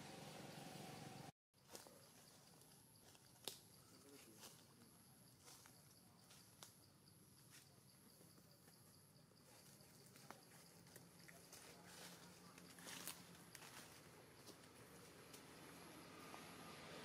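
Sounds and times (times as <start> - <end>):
faint high insect drone: 0.1 - 17.0.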